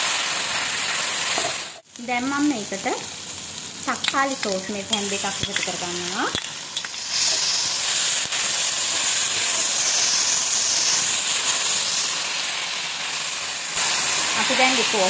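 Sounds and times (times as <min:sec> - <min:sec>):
vegetables sizzling in a hot pan: 0:00.0 - 0:15.0.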